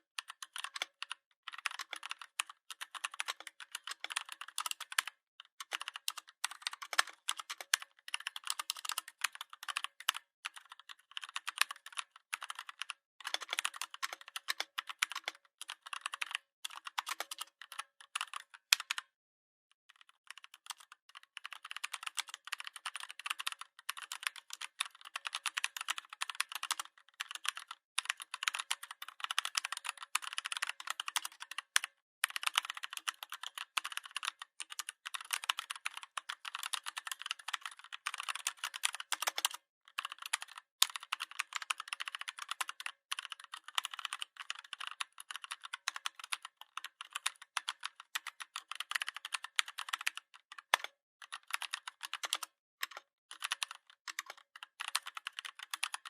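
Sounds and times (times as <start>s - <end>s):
typing on computer keyboard: 0.2s - 19.1s, 19.9s - 56.0s.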